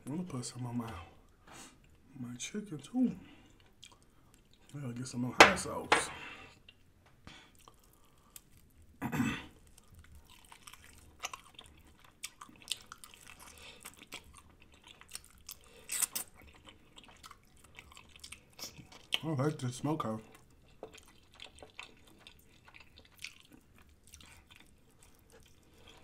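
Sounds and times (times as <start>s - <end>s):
chewing crispy food: 2.7s - 5.3s, 6.4s - 26.0s.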